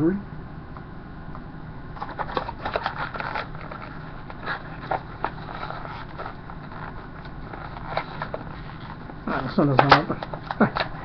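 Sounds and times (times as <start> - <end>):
plastic packaging crackling: 2.0 - 11.0.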